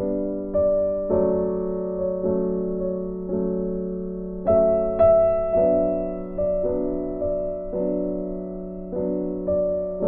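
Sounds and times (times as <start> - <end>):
gentle piano chords: 0.0 - 10.0.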